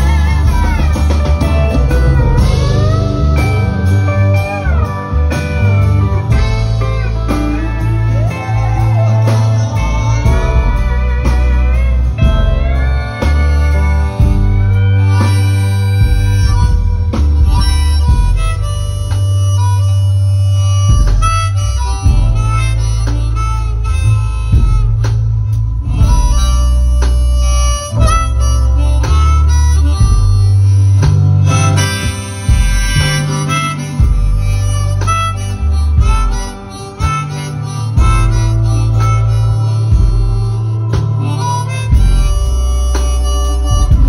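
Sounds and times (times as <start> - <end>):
drums: 0.0 - 44.0
harmonica solo: 0.0 - 44.0
upright bass: 0.0 - 44.0.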